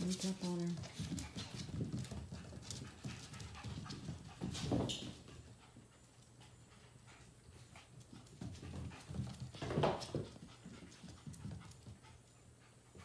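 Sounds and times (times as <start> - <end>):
puppies scuffling: 0.0 - 13.0
dog panting: 0.1 - 13.0.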